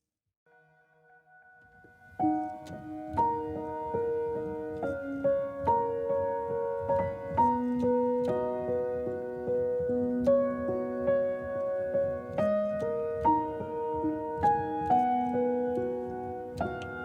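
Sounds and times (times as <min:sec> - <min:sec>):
gentle slow piano music: 0:01.1 - 0:17.0.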